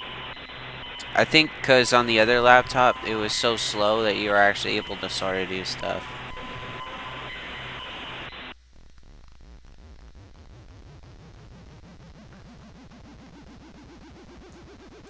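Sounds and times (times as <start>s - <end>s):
fast-pulsing low buzz: 0.0s - 15.0s
harsh static-like noise: 0.0s - 15.0s.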